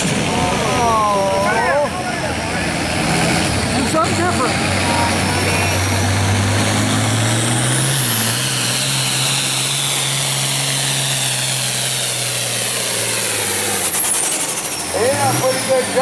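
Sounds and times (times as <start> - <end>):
tractor engine at full load: 0.0 - 16.0.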